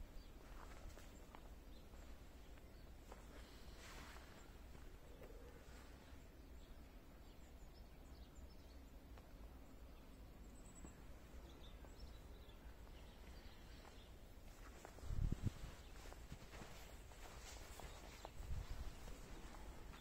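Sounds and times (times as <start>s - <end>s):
faint outdoor background rumble: 0.0s - 20.0s.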